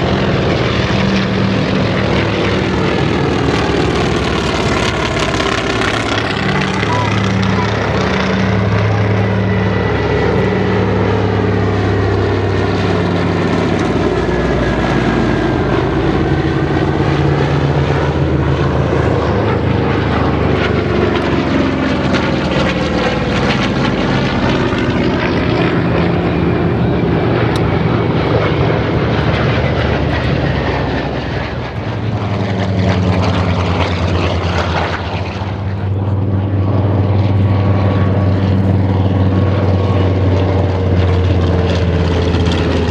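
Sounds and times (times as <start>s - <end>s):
propeller planes flying low past: 0.0s - 42.9s.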